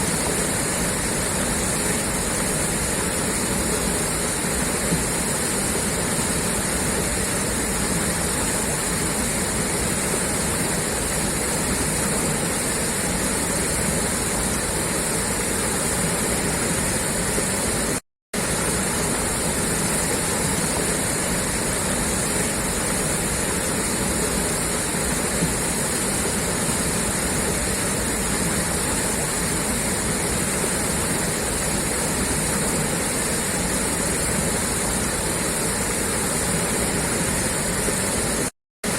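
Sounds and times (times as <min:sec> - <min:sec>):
water gushing from a pipe: 0:00.0 - 0:38.9.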